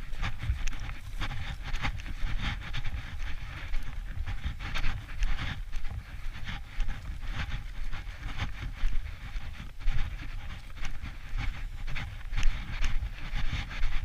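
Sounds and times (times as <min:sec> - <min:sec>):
puppy panting: 0:00.0 - 0:14.0
wind rumbling on microphone: 0:00.0 - 0:14.0.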